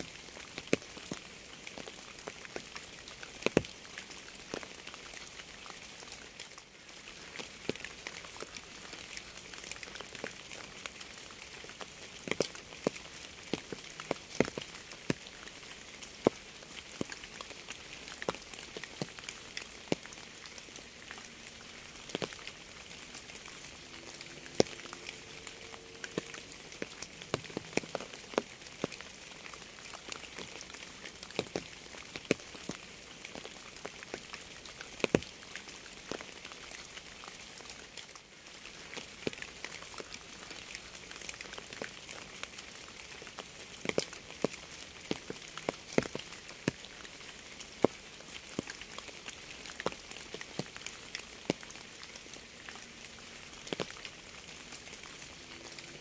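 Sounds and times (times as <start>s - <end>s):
raindrops dripping and tapping: 0.0s - 56.0s
steady rain hiss: 0.0s - 56.0s.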